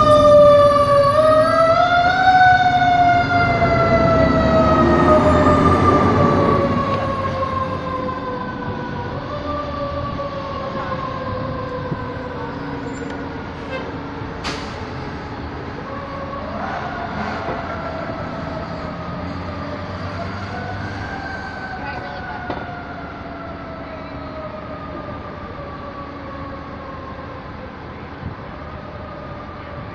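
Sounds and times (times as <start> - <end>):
fire engine siren wailing: 0.0 - 29.9.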